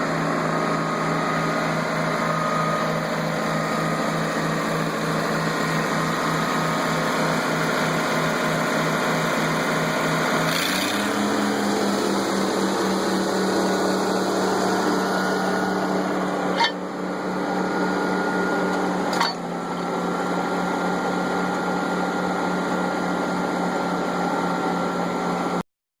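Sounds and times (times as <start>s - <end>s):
tractor engine running: 0.0s - 25.6s.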